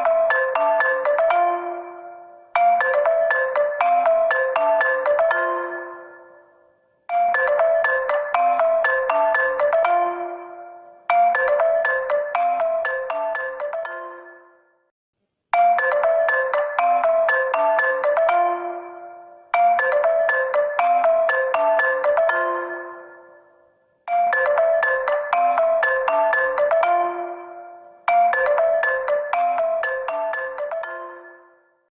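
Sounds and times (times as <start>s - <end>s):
phone ringtone melody: 0.0s - 14.9s, 15.5s - 31.9s.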